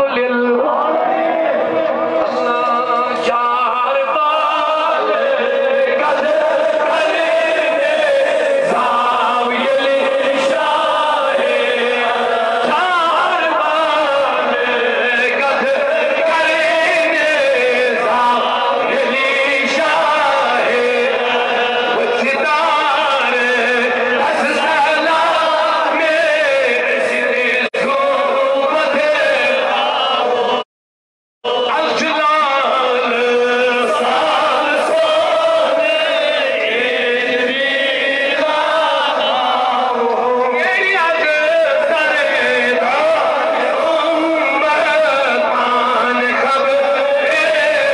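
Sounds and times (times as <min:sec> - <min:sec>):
man chanting into microphone: 0:00.0 - 0:30.6, 0:31.4 - 0:47.9.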